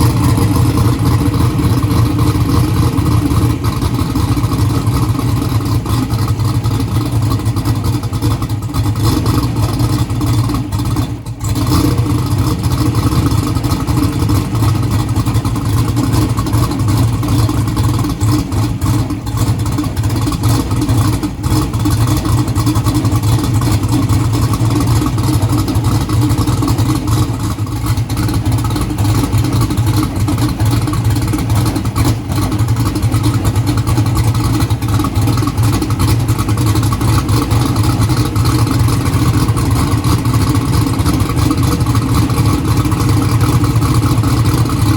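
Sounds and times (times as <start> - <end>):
turbocharged engine idling: 0.0 - 44.9.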